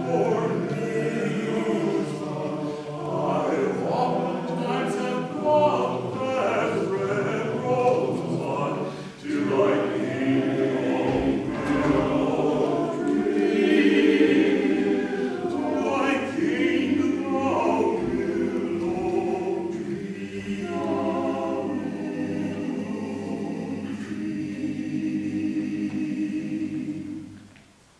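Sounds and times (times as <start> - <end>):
mixed choir singing: 0.0 - 27.5.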